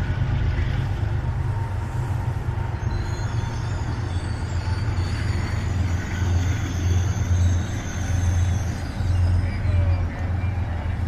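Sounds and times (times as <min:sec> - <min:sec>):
train cars rolling past: 0:00.0 - 0:11.0.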